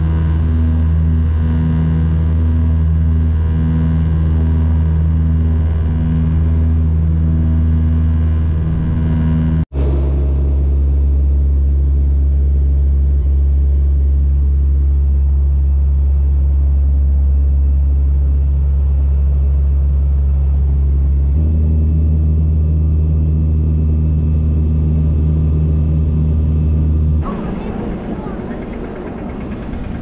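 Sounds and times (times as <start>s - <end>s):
propeller plane cabin drone: 0.0s - 30.0s.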